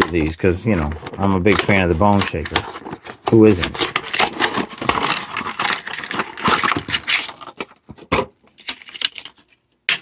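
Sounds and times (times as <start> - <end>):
plastic packaging crinkling: 0.0 - 7.8, 8.5 - 10.0.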